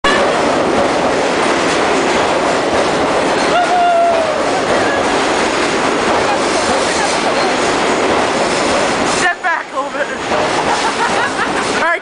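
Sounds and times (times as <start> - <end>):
subway train rushing past: 0.0 - 12.0.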